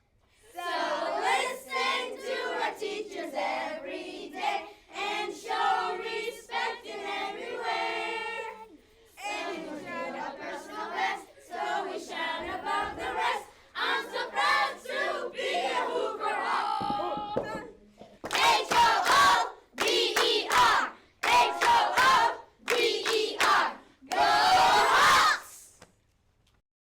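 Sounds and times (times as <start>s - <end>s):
children singing in unison: 0.6s - 17.4s, 18.4s - 25.5s.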